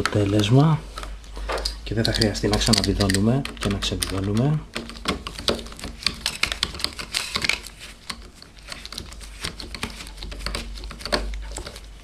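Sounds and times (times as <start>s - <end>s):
screwdriver clicking and scraping: 0.0s - 11.9s.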